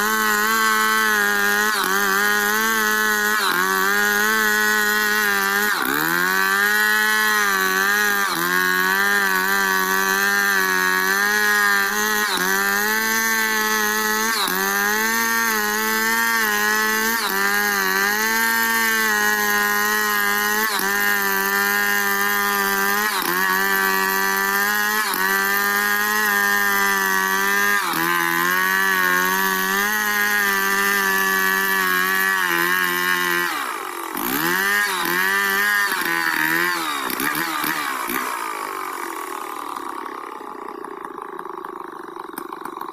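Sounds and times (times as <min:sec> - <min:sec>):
chainsaw cutting a log: 0:00.0 - 0:42.9.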